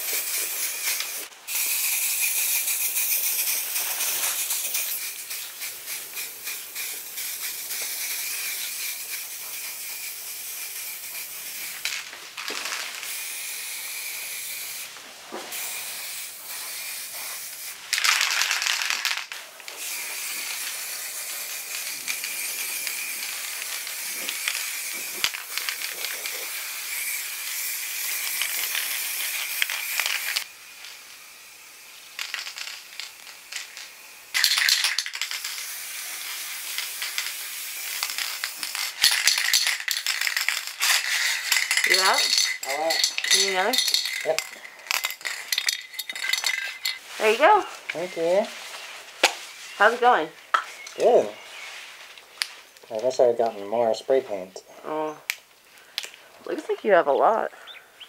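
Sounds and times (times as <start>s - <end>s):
spray can hissing: 0.0s - 48.2s.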